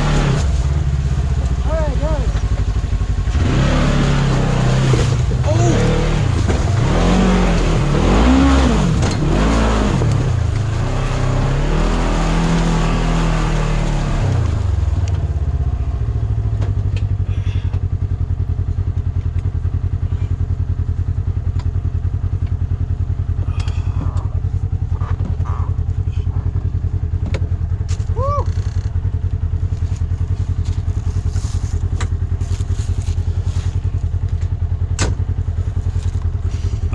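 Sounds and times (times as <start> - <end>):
engine revving and idling: 0.0 - 36.9.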